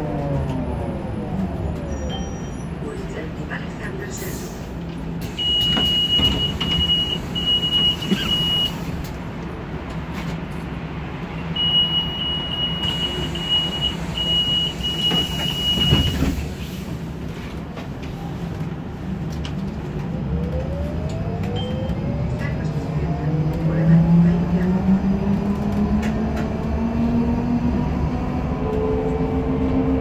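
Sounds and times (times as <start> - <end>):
trolleybus low hum: 0.0 - 30.0.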